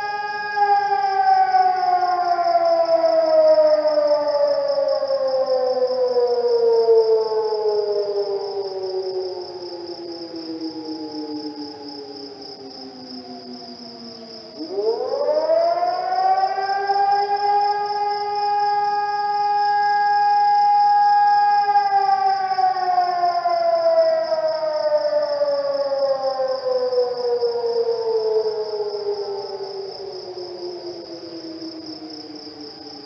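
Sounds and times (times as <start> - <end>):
civil defence siren winding down: 0.0 - 33.0.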